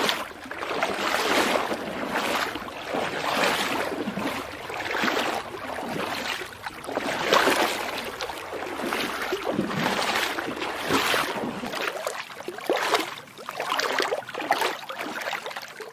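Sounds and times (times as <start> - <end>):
feet wading through shallow water: 0.0 - 15.9.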